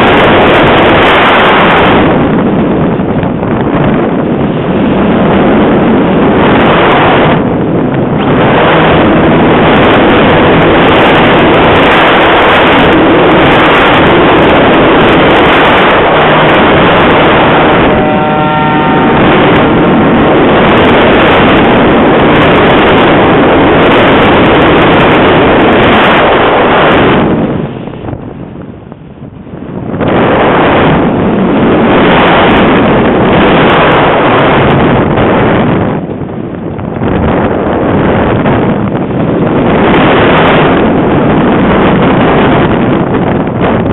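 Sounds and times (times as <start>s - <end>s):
heavy wind buffeting microphone: 0.0s - 43.9s.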